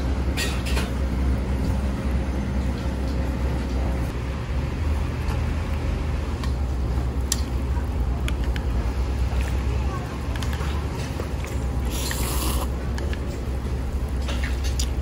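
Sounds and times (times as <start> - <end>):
street noise rumble: 0.0 - 15.0.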